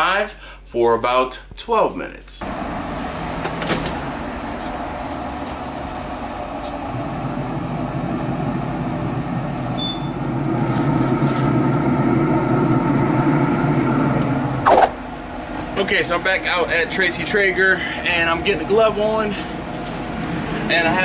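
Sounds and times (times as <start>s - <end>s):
grill fan and motor hum: 2.4s - 21.0s.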